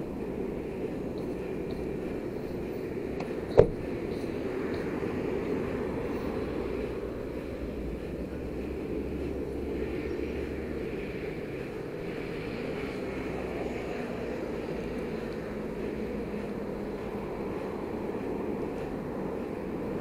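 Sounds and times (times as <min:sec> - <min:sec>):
rolling road noise: 0:00.0 - 0:20.0
wind rumble: 0:00.0 - 0:20.0.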